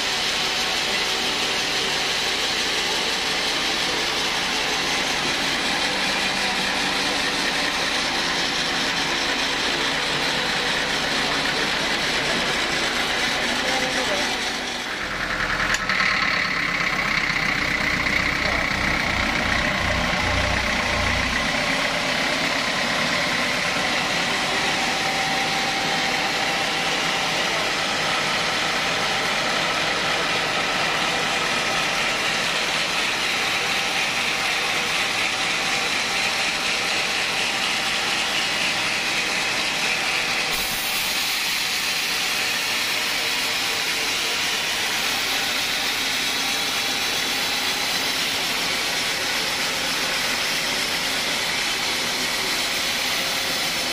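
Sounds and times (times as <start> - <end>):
band saw cutting log: 0.0 - 53.9.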